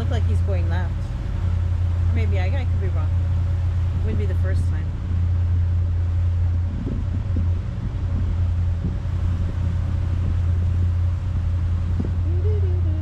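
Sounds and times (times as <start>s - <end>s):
motorboat engine drone: 0.0s - 13.0s
wind and water rushing: 0.0s - 13.0s.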